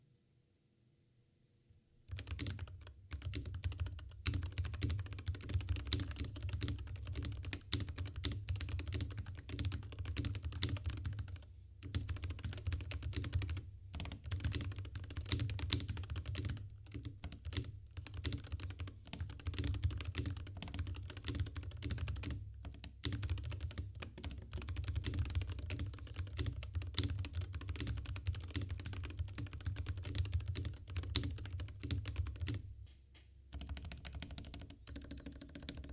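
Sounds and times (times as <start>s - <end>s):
keyboard typing: 2.1s - 32.7s, 33.5s - 35.9s.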